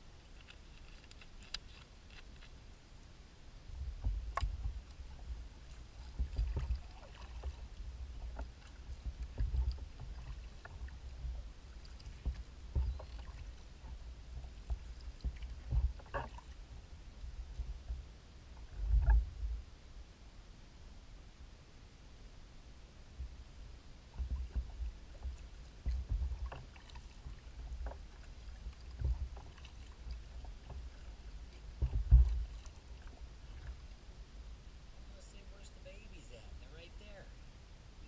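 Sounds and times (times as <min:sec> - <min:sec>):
water lapping against kayak hull: 0:03.4 - 0:19.8, 0:23.1 - 0:37.2
low bumps and small splashes: 0:03.4 - 0:20.1, 0:23.0 - 0:38.0.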